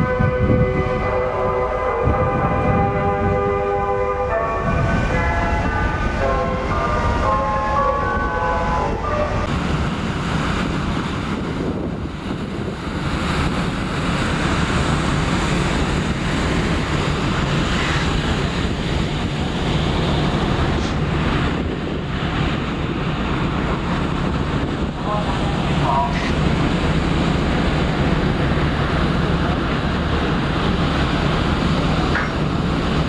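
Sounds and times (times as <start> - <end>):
low ship hum: 0.0 - 33.0
sea rushing along hull: 0.0 - 33.0
wind buffeting microphone: 0.0 - 33.0.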